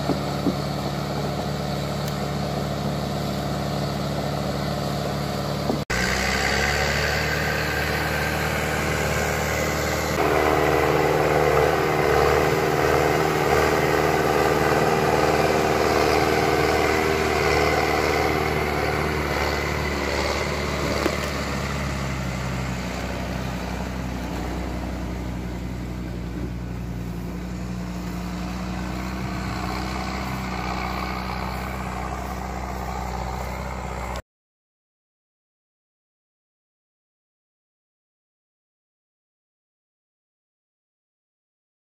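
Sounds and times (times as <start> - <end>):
diesel engine running: 0.0 - 34.2.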